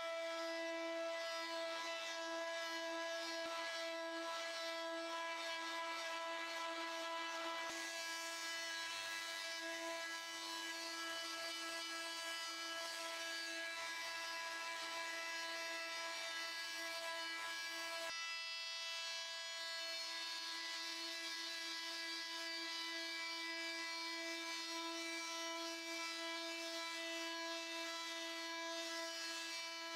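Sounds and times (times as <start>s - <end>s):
multi-tool sanding wood: 0.0s - 29.9s.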